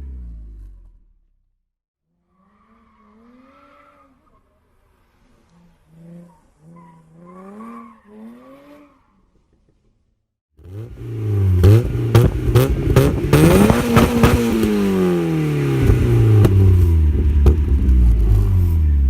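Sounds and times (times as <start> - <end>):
car engine revving: 2.1 - 9.8, 10.6 - 19.0.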